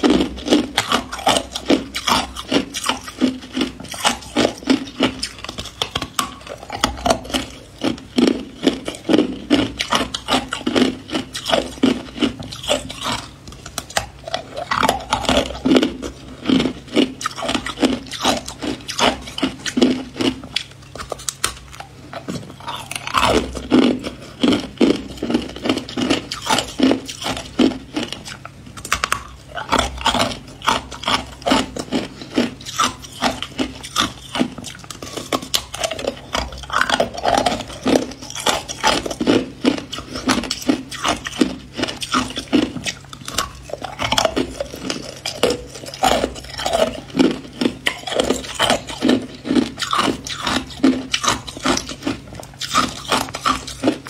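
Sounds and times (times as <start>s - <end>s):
ice being crunched and chewed: 0.0s - 54.0s.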